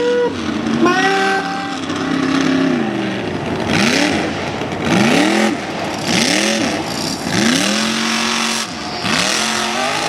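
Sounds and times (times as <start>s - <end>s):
spinning tyres rushing: 0.0s - 10.0s
truck engine revving: 0.0s - 10.0s.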